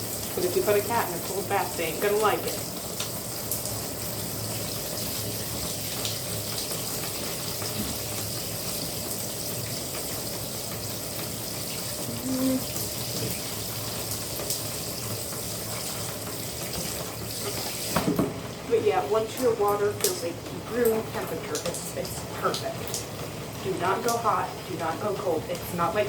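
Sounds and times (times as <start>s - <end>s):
water running from bathtub tap: 0.0s - 26.0s.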